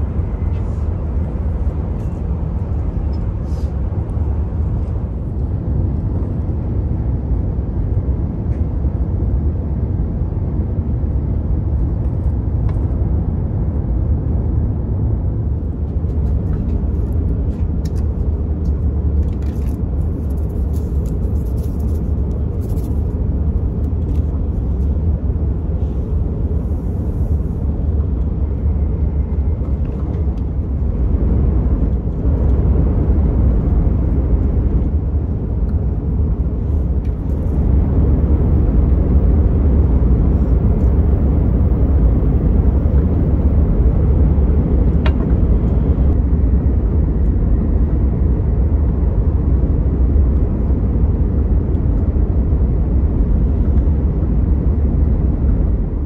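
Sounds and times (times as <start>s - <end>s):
train cabin low rumble: 0.0s - 56.0s.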